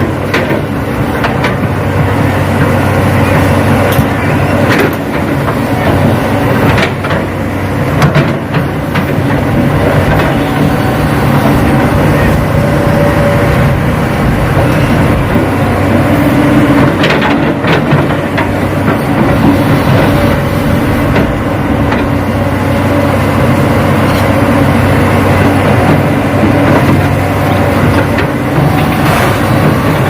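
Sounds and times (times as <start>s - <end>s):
model excavator mechanical drone: 0.0s - 30.0s.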